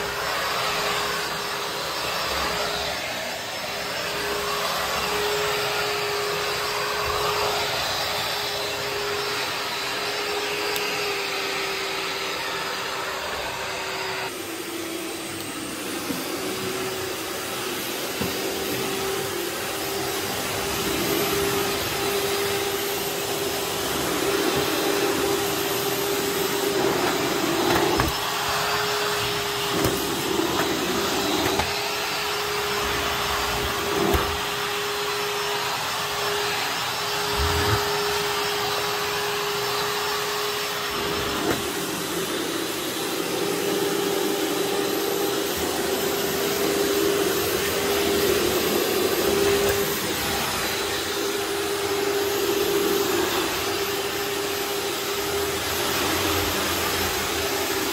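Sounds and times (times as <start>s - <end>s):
upright vacuum cleaner running: 0.0s - 57.9s.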